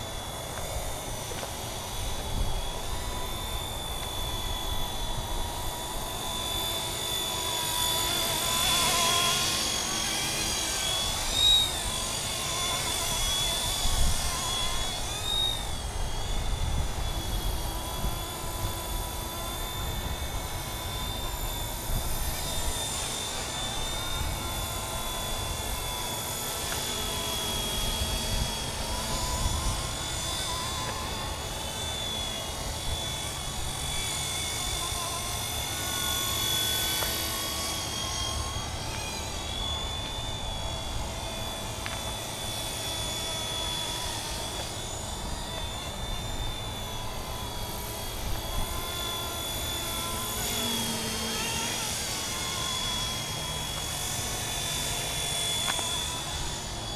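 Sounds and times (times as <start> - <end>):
model helicopter rotor whine: 0.0 - 56.9.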